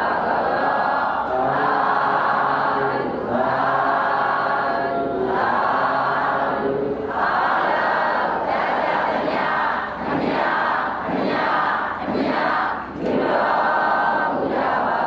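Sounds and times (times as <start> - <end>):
congregation chanting in unison: 0.0 - 15.0.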